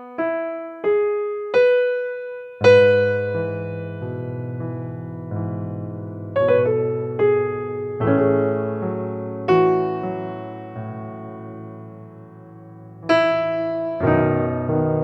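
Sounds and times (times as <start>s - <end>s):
soft electric piano music: 0.0s - 15.0s.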